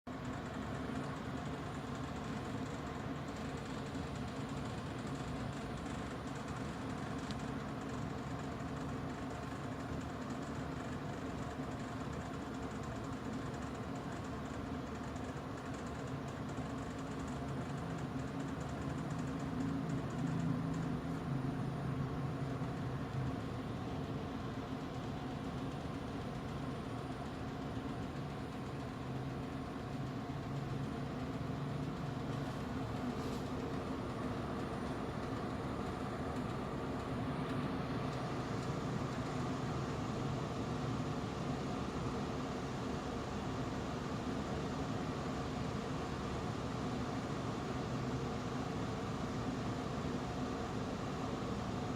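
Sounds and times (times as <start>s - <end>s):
air conditioner humming: 0.0s - 51.9s
fast fine rattle: 0.1s - 51.9s.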